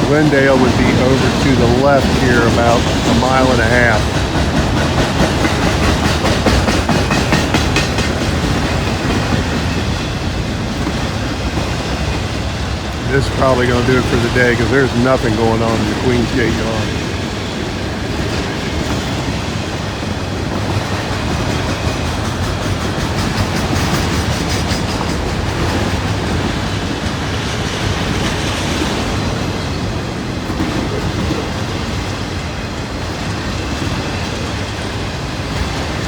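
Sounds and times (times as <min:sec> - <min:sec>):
freight train wheels clattering: 0:00.0 - 0:36.0.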